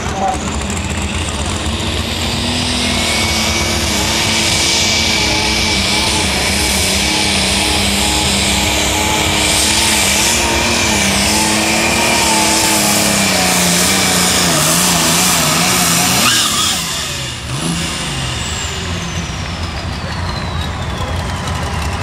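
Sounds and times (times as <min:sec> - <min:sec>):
diesel tractor engine at full power: 0:00.0 - 0:22.0
turbo whine winding down: 0:00.0 - 0:22.0.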